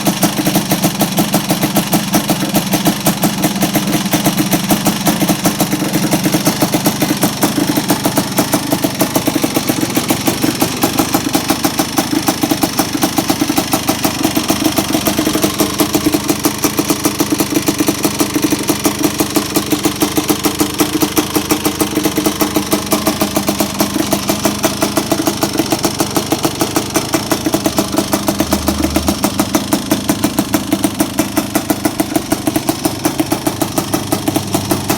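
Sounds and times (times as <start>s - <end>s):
two-stroke engine idling: 0.0s - 34.9s.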